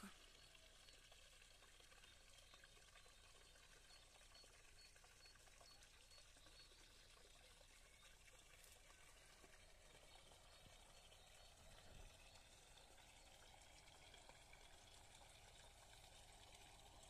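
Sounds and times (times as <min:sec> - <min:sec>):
water trickling in pond: 0:00.0 - 0:17.0.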